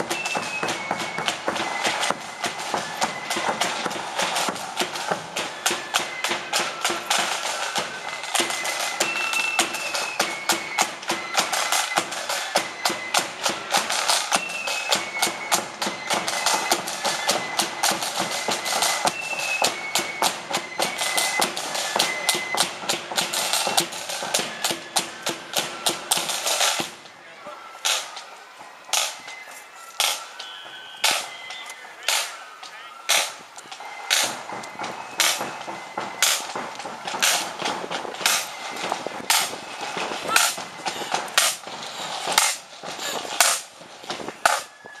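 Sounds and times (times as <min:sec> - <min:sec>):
side drums beating: 0:00.0 - 0:27.1, 0:27.8 - 0:44.8
high flute melody: 0:00.0 - 0:45.0.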